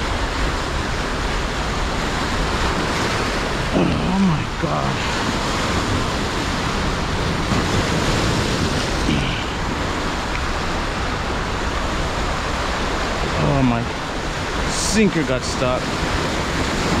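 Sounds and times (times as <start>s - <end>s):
river whitewater rushing: 0.0s - 17.0s.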